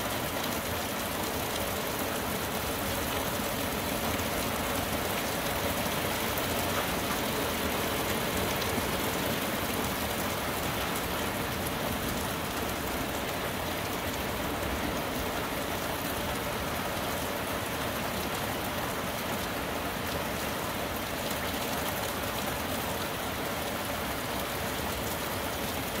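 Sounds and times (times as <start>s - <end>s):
heavy rain on trees: 0.0s - 26.0s.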